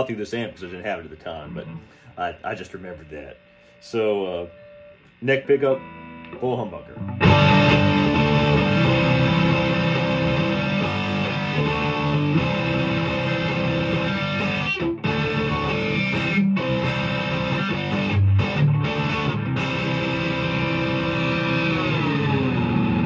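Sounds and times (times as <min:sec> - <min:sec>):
electric guitar through an amp: 0:00.0 - 0:23.0.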